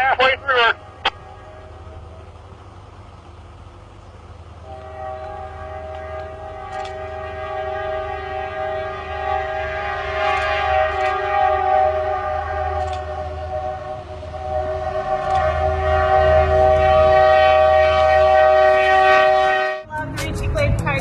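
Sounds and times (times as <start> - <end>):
train horn blast: 0.0 - 2.6, 4.6 - 19.9.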